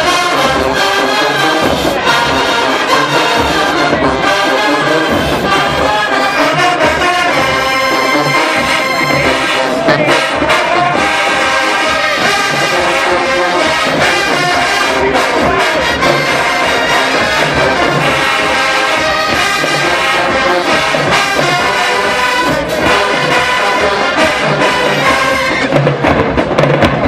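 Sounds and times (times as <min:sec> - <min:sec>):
marching band brass music: 0:00.0 - 0:27.0.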